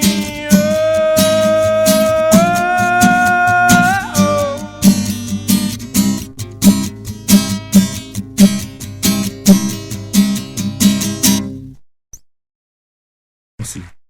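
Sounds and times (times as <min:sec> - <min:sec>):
acoustic guitar strumming: 0:00.0 - 0:11.8.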